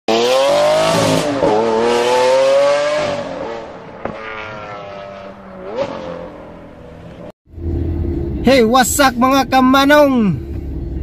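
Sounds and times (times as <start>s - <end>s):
car engine revving: 0.1s - 9.0s.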